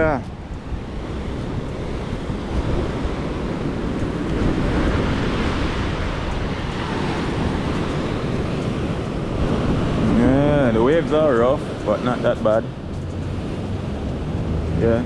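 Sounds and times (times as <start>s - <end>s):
sea surf breaking: 0.0s - 15.0s
wind buffeting microphone: 0.0s - 15.0s.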